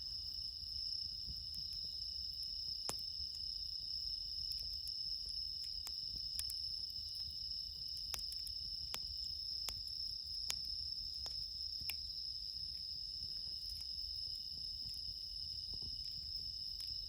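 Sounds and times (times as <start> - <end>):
crickets chirping: 0.0 - 17.0
campfire crackling: 0.1 - 17.0.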